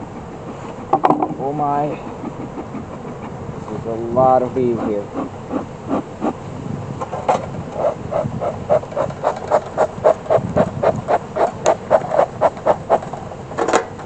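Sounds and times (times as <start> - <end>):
smoker bellows puffing: 0.0 - 13.8.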